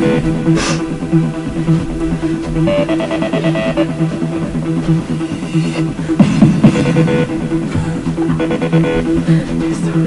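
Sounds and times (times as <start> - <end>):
dance music: 0.0 - 10.0.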